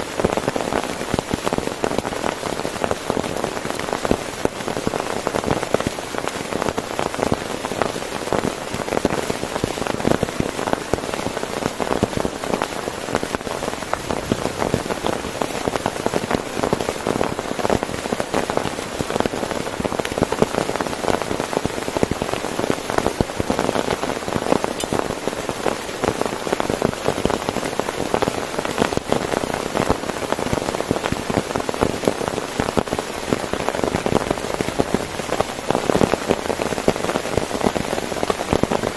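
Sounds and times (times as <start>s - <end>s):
heavy rain on a tent: 0.0s - 38.9s.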